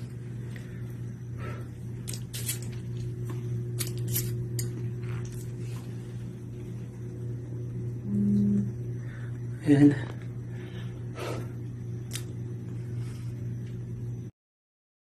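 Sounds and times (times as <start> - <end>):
low room hum: 0.0 - 14.3.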